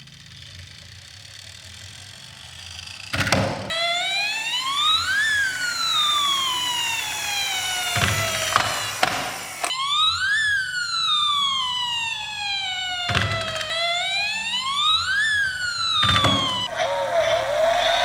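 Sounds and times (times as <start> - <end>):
police siren wailing: 1.3 - 18.0.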